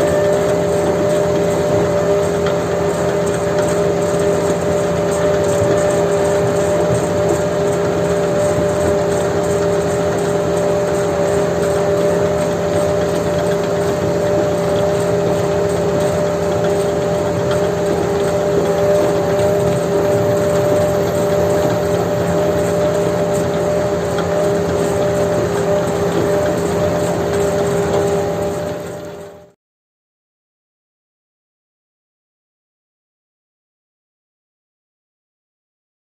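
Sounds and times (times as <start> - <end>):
diesel engine running: 0.0 - 29.5
steady whine: 0.0 - 29.5.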